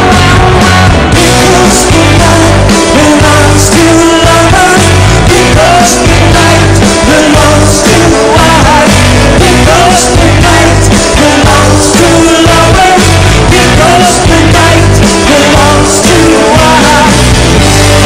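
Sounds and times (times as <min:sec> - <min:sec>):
loud rock song with singing: 0:00.0 - 0:18.0.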